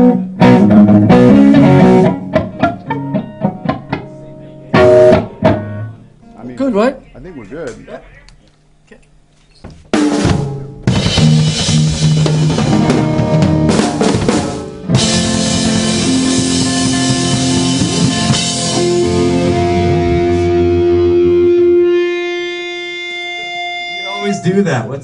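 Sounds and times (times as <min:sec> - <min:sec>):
drum kit: 0:00.0 - 0:06.0, 0:09.6 - 0:24.3
distorted electric guitars: 0:00.0 - 0:08.4, 0:09.0 - 0:25.0.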